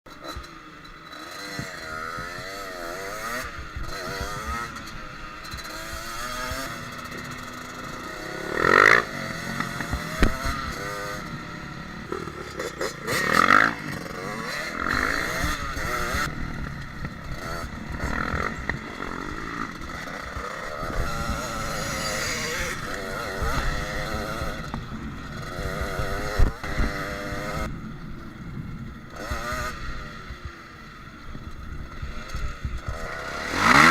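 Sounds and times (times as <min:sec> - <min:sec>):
dirt bike engine revving: 0:00.1 - 0:27.7, 0:28.8 - 0:33.9.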